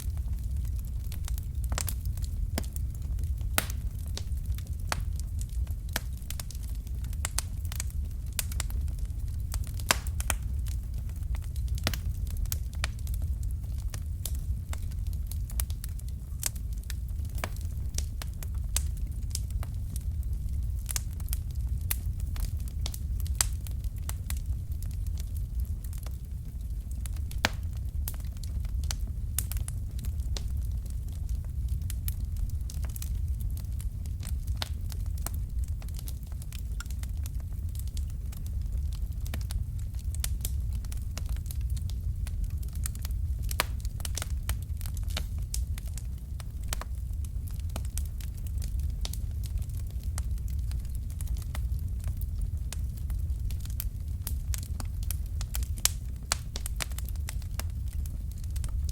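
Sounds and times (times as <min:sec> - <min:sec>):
steady low rumble: 0:00.0 - 0:58.9
wood fire crackling: 0:00.0 - 0:58.9.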